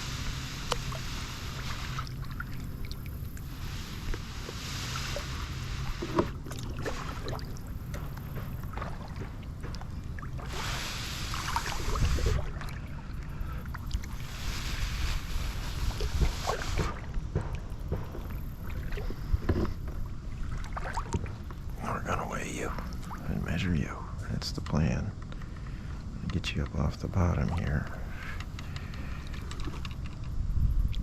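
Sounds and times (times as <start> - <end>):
wind buffeting microphone: 0.0 - 12.8, 13.4 - 23.8, 27.4 - 31.0
water lapping against hull: 0.0 - 31.0.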